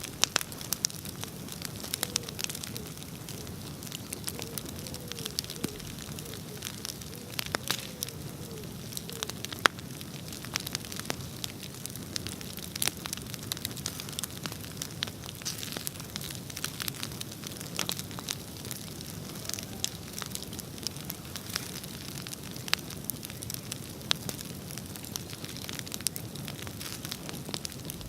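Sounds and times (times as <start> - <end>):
bonfire crackling and popping: 0.0 - 28.0
low rumble of burning: 0.0 - 28.0.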